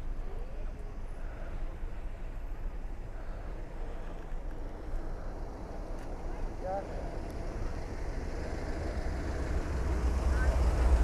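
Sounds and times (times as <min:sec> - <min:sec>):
pickup truck engine and tyres rumbling: 0:00.0 - 0:11.0.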